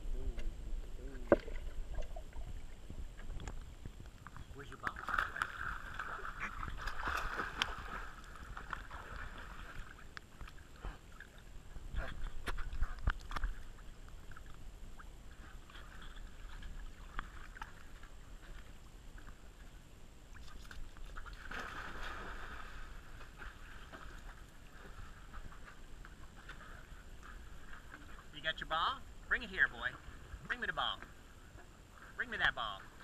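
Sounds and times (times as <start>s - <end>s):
water splashing and lapping: 1.2s - 28.5s.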